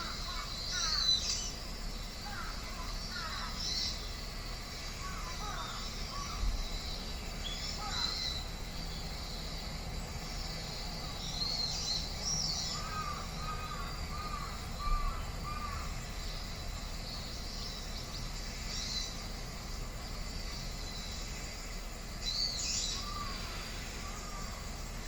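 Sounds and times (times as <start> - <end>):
birds calling: 0.0 - 25.0
low background rumble: 0.0 - 25.0.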